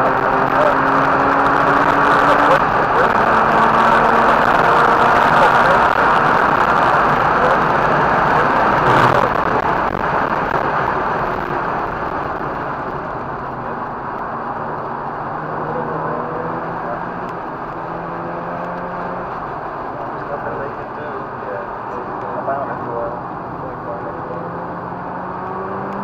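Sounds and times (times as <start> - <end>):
rotary engine: 0.0 - 21.2
wind and road noise: 0.0 - 26.0.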